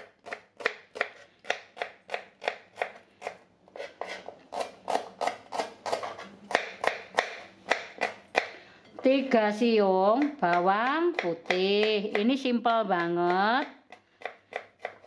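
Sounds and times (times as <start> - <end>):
knife chopping on plastic board: 0.0 - 8.6, 10.2 - 15.0.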